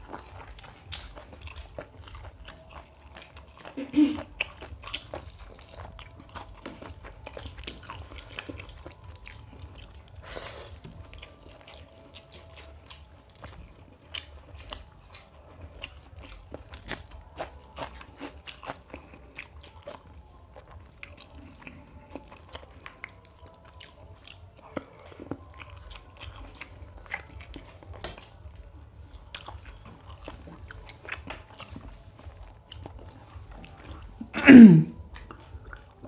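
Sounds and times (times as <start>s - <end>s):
wet chewing and lip smacks: 0.0s - 36.0s.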